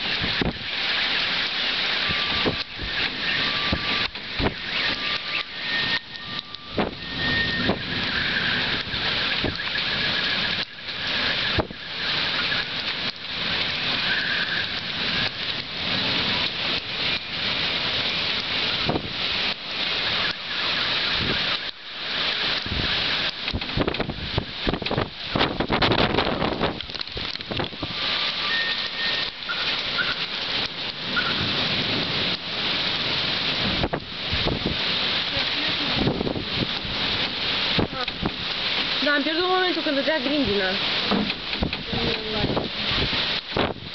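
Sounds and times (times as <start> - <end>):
gusting wind: 0.0 - 43.9
heavy rain: 0.0 - 43.9.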